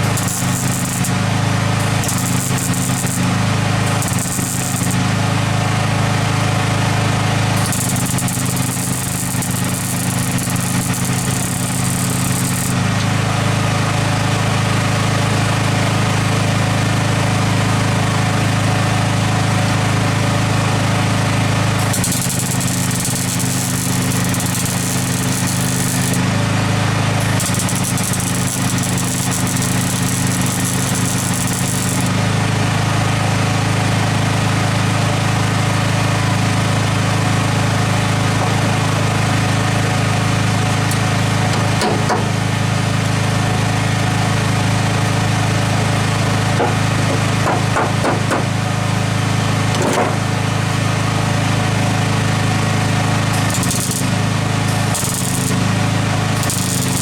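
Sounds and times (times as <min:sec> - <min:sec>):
small generator engine running: 0:00.0 - 0:57.0.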